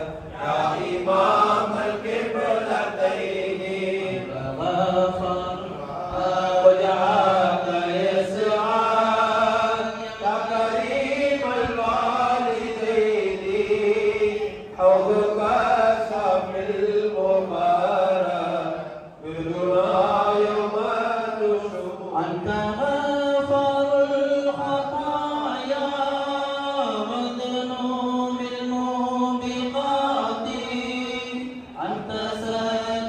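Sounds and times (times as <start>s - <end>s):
men singing a devotional chant: 0.0s - 33.0s.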